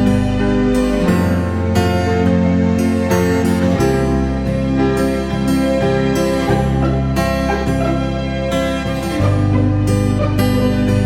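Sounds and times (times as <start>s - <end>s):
gentle keyboard chords: 0.0s - 11.0s.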